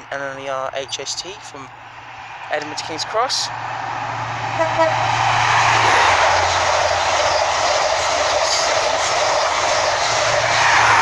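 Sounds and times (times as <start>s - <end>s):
low diesel hum: 0.0s - 11.0s
train rushing past: 1.6s - 11.0s.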